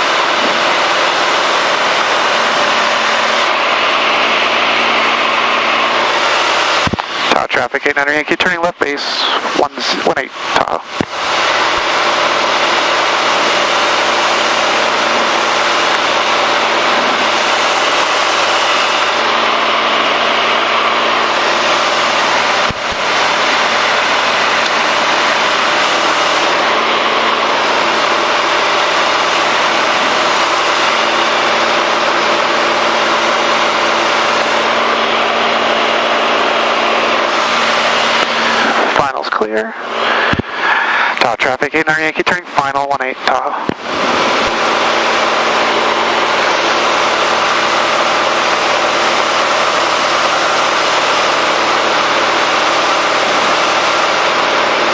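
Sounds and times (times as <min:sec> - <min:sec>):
light aircraft cabin drone: 0:00.0 - 0:54.9.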